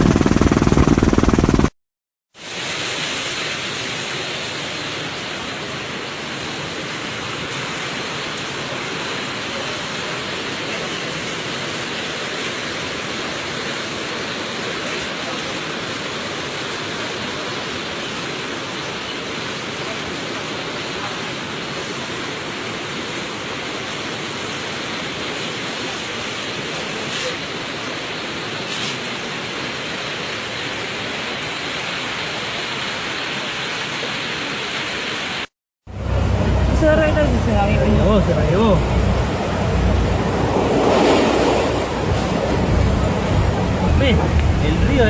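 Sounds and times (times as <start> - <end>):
river rushing: 2.4 - 45.0.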